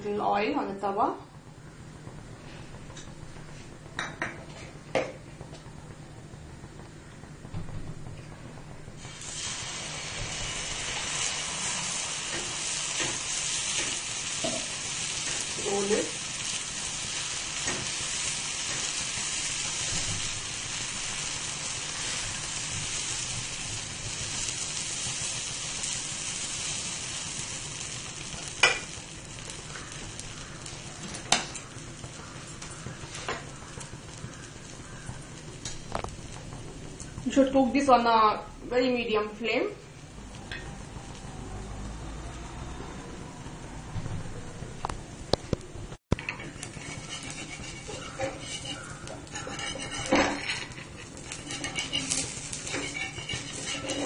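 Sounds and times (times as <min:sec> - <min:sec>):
batter sizzling on hot griddle: 0:01.6 - 0:42.6, 0:46.1 - 0:54.0.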